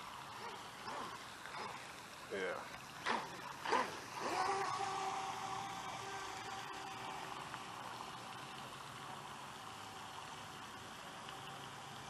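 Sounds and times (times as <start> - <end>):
rc boat motor whining: 0.0 - 12.0.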